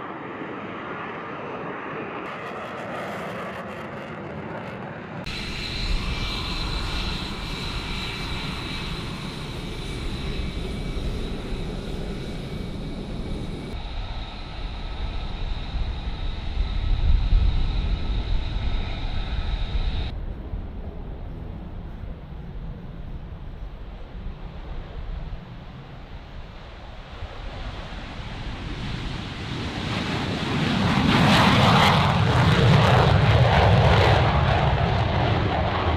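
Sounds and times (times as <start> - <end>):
jet engine whine and rumble: 0.0 - 35.9.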